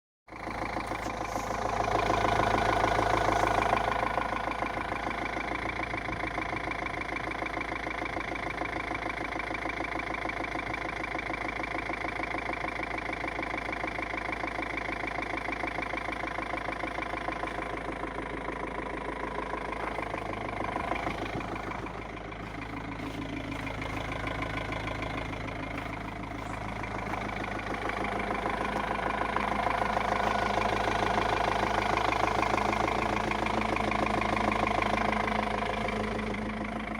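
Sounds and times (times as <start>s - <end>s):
diesel engine idling: 0.3s - 36.9s
rhythmic engine knock: 0.3s - 36.9s.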